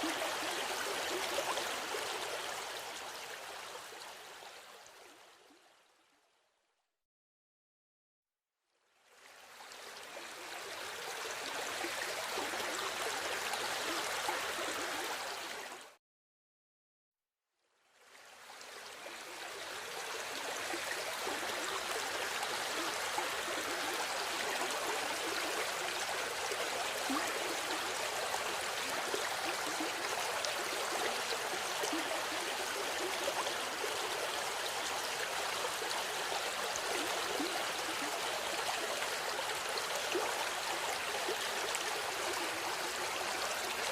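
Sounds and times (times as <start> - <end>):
river water flowing: 0.0 - 5.5, 9.0 - 15.9, 18.0 - 43.9.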